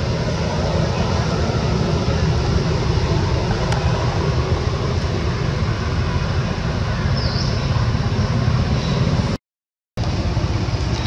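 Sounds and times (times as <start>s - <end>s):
loud rumbling noise with hiss: 0.0s - 9.4s, 10.0s - 11.0s.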